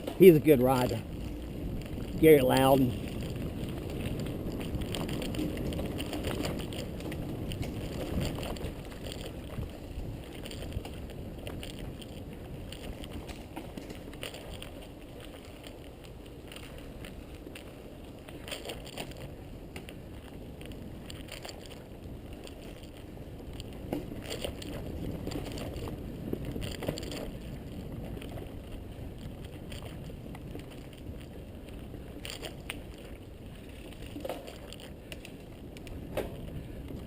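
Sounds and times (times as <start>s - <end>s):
bike clicks and rattles: 0.0s - 37.0s
bike tyre and drivetrain noise: 0.0s - 37.0s.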